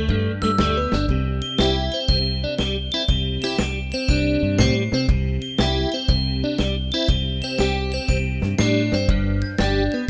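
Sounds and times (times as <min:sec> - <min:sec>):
upbeat electric piano music: 0:00.0 - 0:10.0.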